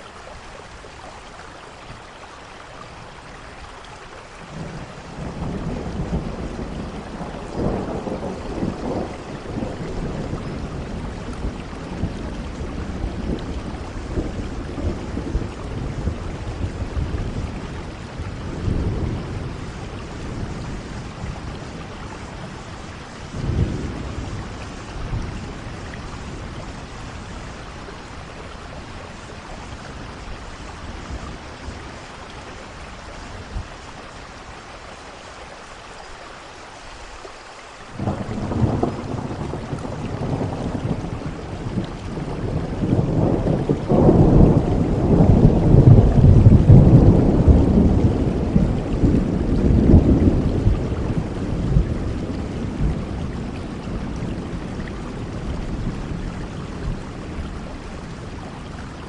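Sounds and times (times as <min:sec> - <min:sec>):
steady rain: 0:00.0 - 0:59.0
thunder rumbling: 0:04.4 - 0:33.9, 0:38.0 - 0:59.0.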